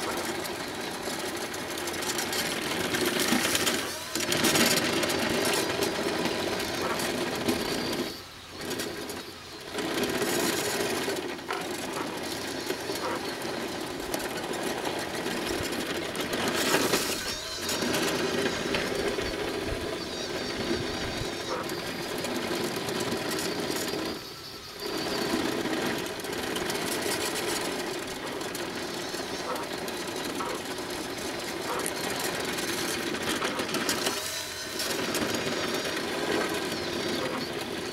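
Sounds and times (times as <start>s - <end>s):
toy bulldozer motors running: 0.0s - 37.9s.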